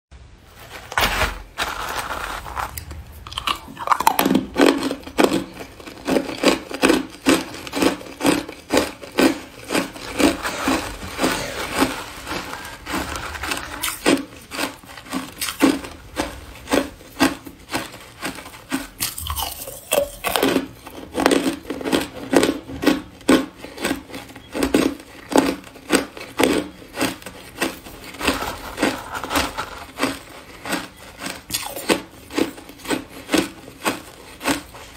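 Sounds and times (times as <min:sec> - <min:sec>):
ice crunching while chewed: 0:01.6 - 0:34.9.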